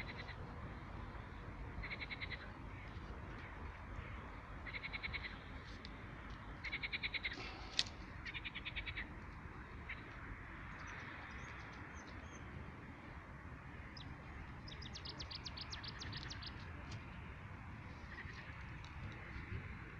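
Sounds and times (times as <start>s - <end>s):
low background rush: 0.0s - 19.9s.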